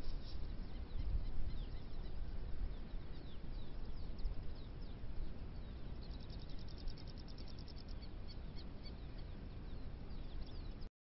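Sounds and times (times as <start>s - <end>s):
birds chirping: 0.0s - 10.9s
low wind rumble: 0.0s - 10.9s.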